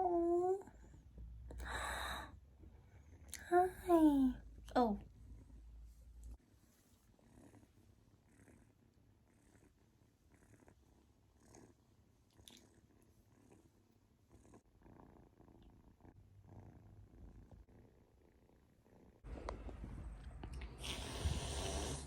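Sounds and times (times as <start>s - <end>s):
kitten purring: 0.0s - 6.4s, 7.0s - 22.0s.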